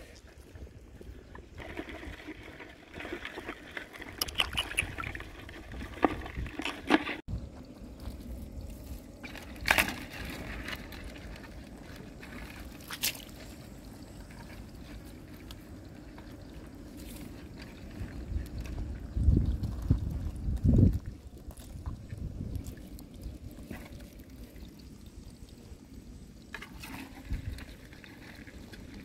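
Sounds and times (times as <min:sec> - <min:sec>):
muddy water sloshing and splashing: 0:00.0 - 0:29.0.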